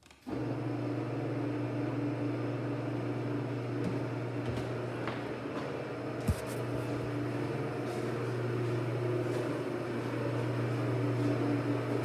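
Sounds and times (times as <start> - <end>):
garage door opener motor humming: 0.3 - 12.0.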